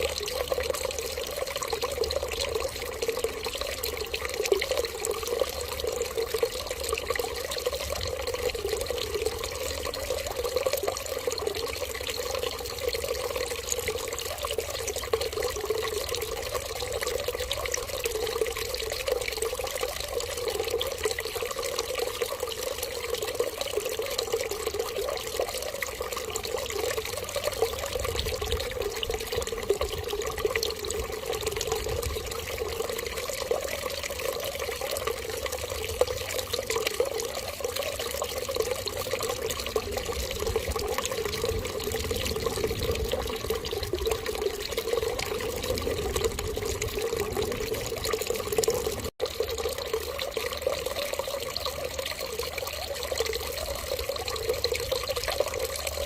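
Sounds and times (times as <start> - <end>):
running water stream: 0.0 - 56.0.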